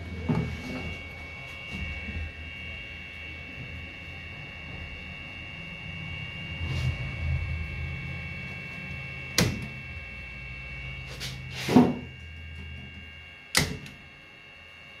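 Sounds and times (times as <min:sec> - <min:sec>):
faint high whine: 0:00.0 - 0:15.0
low mains hum: 0:00.0 - 0:15.0.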